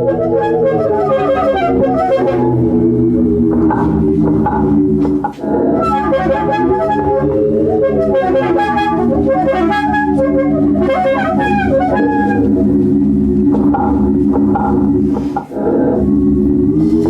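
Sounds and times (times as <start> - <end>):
experimental saxophone music: 0.0 - 17.0.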